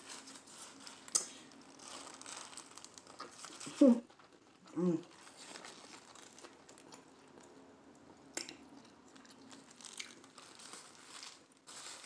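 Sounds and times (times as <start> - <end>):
chewing crispy food: 0.0 - 12.0.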